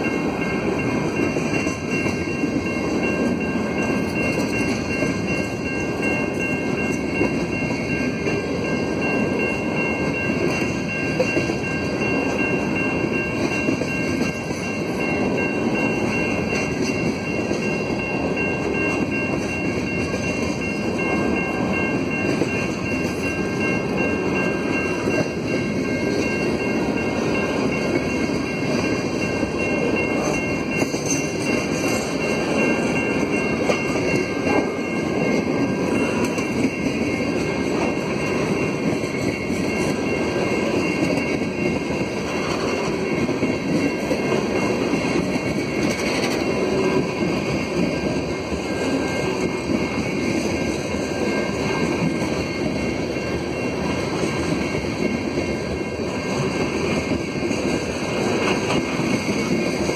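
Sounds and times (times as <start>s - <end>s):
steel wheels on rails: 0.0s - 59.9s.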